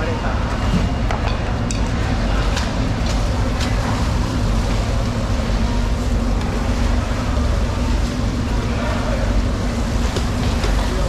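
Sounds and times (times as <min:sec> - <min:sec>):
machinery rumbling and humming: 0:00.0 - 0:11.0.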